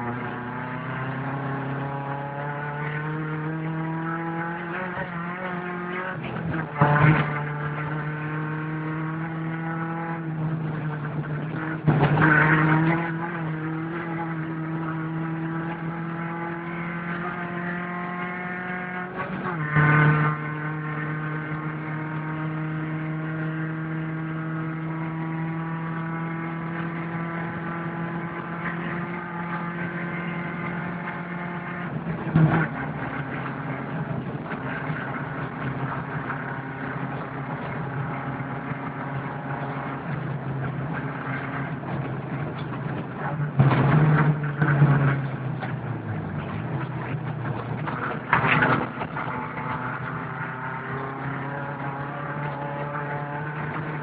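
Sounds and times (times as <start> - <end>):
rally car engine running hard: 0.0 - 54.0.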